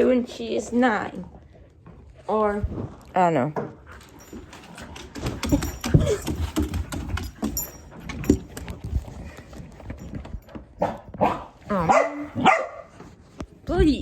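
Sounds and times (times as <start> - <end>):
dogs scuffling: 1.7 - 14.0.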